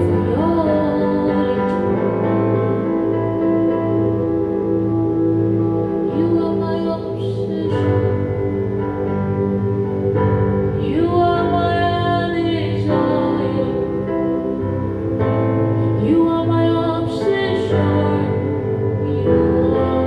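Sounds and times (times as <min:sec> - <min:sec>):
slow devotional instrumental music: 0:00.0 - 0:20.0.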